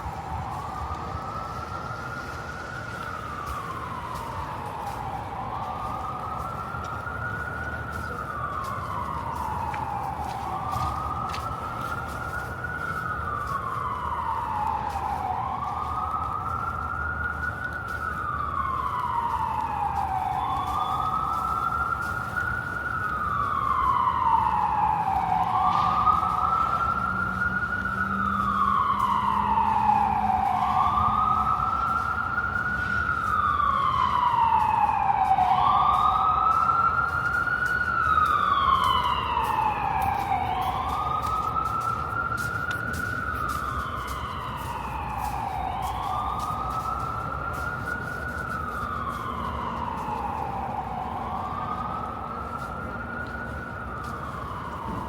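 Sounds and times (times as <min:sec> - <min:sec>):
emergency siren wailing: 0:00.0 - 0:55.0.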